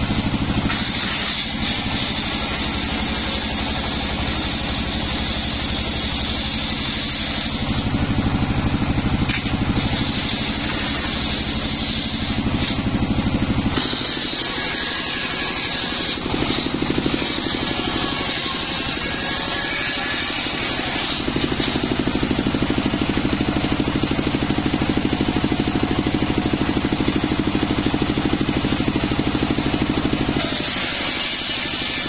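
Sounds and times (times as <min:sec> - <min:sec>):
saw blade cutting wood: 0:00.0 - 0:08.5, 0:09.2 - 0:32.0
engine pulsing: 0:00.0 - 0:32.0.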